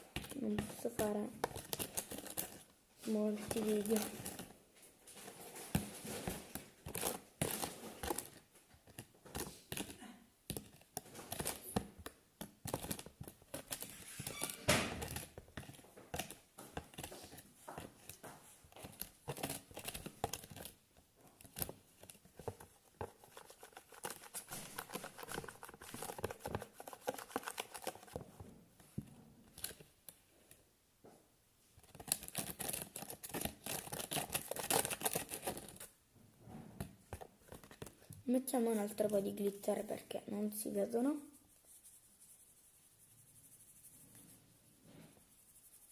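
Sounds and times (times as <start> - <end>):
plastic crackling and crinkling: 0.0 - 30.6, 31.7 - 36.0, 36.8 - 41.8.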